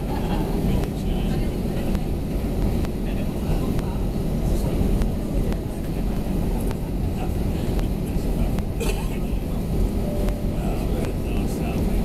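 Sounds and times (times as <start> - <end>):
jet engines low rumble: 0.0 - 12.0.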